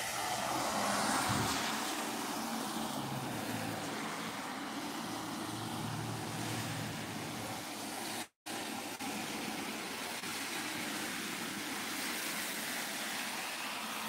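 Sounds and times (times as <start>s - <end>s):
tyres hissing over wet road: 0.0s - 8.4s, 9.2s - 14.0s.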